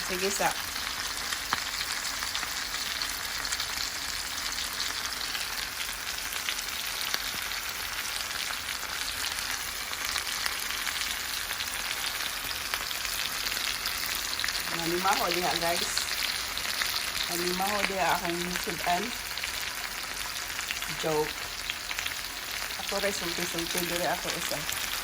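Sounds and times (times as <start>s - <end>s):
chicken sizzling in a pan: 0.0s - 25.0s.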